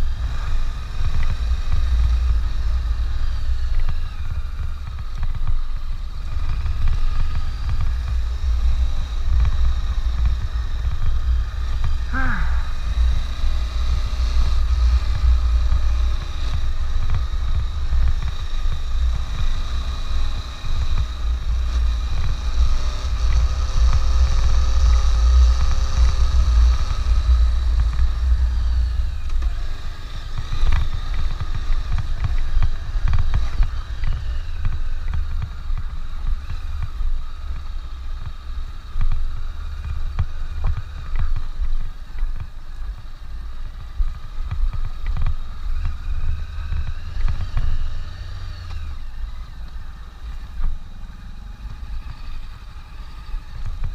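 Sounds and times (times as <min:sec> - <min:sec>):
motorcycle engine running: 0:00.0 - 0:53.9
wind rumble on microphone: 0:00.0 - 0:53.9.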